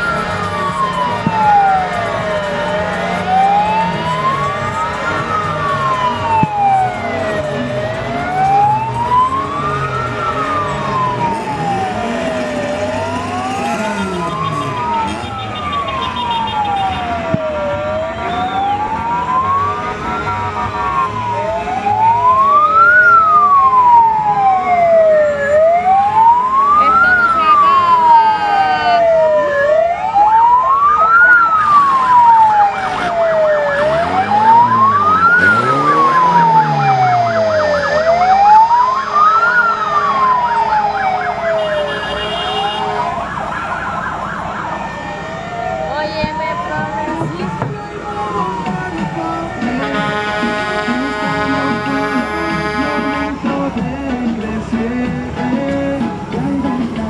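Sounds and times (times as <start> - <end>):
police sirens wailing: 0.0 - 57.0.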